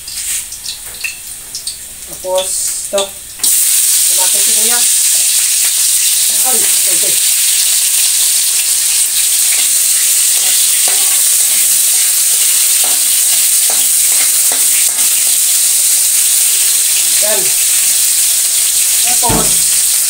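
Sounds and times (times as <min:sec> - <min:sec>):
oil sizzling in a wok: 0:00.0 - 0:20.0.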